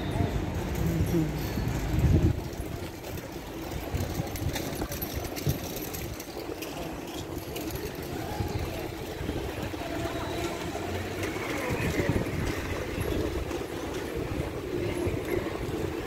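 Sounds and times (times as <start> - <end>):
traffic hum: 0.0 - 16.0.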